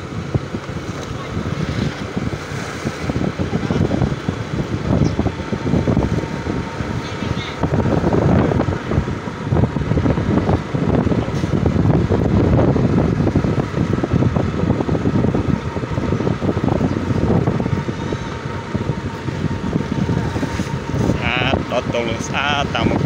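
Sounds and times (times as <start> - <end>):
scooter engine running: 0.0 - 23.0
wind buffeting microphone: 0.0 - 23.0.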